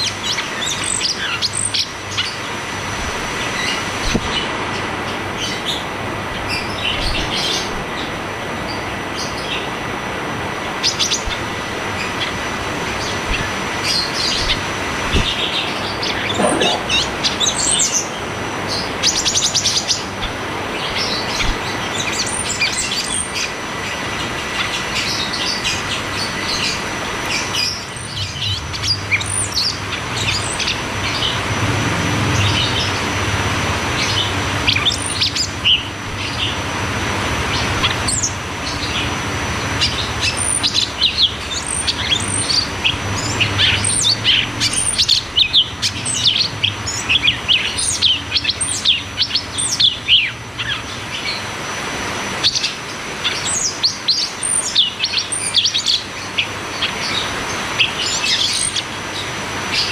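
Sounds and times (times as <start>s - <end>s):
bird chirping and trilling: 0.0s - 9.8s, 10.5s - 31.5s, 33.9s - 36.7s, 37.4s - 51.5s, 52.4s - 59.9s.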